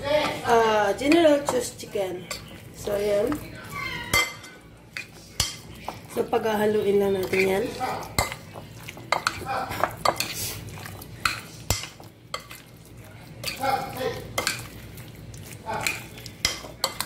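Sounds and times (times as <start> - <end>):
spoon stirring chicken in bowl: 1.0 - 17.0.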